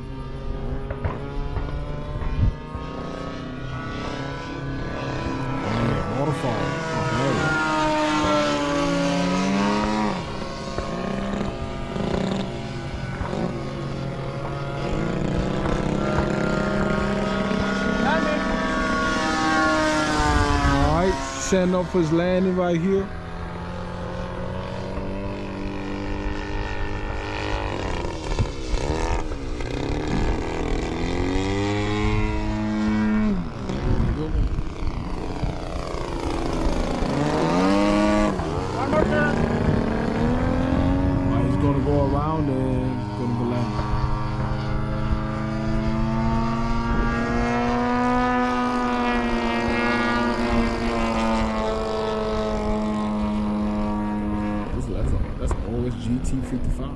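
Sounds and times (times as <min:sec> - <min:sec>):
model airplane engine and propeller: 0:00.0 - 0:56.9.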